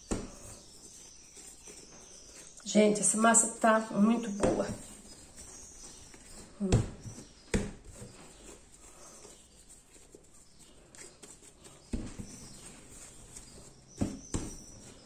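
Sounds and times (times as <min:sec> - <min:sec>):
dough rubbing and patting: 0:00.0 - 0:15.0.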